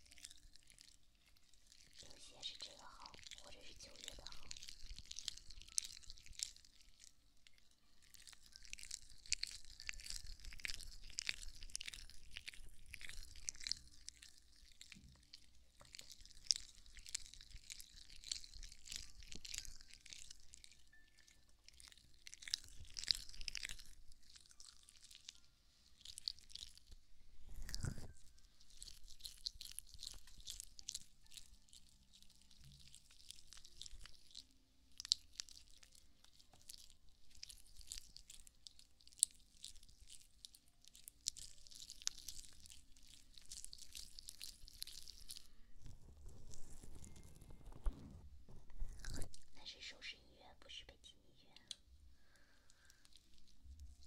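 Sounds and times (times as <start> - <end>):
crisp crackly scratching: 0.0 - 50.8.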